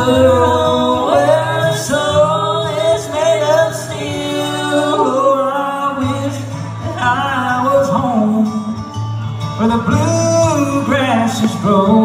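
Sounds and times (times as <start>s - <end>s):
man singing: 0.0s - 8.9s, 9.5s - 12.0s
strummed acoustic guitar: 0.0s - 12.0s.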